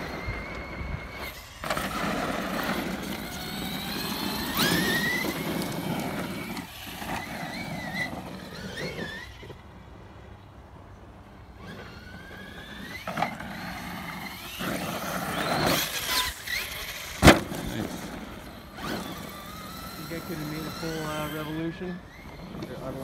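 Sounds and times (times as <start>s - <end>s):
tyres rushing on loose dirt: 0.0s - 9.6s, 11.5s - 23.0s
electric motor whine: 0.0s - 9.8s, 11.2s - 23.0s.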